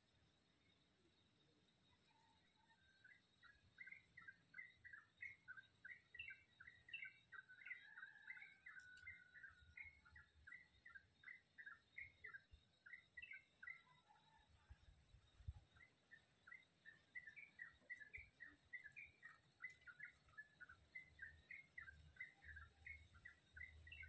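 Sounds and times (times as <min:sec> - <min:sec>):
faint songbird chirping: 0:00.0 - 0:24.0.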